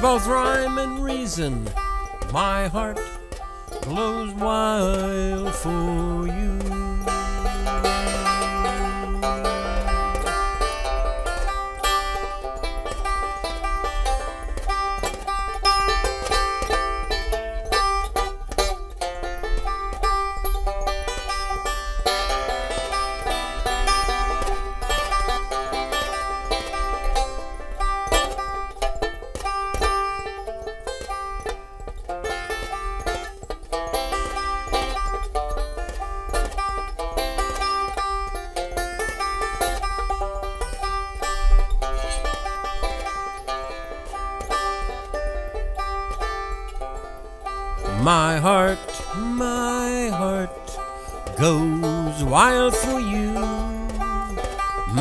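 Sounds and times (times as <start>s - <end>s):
banjo picking: 0.0s - 55.0s.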